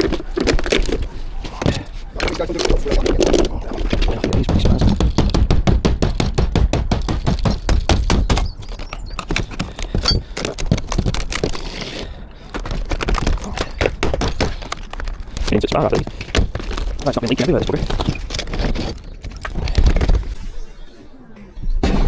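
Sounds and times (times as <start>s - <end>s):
demolition clattering and knocking: 0.0s - 20.5s.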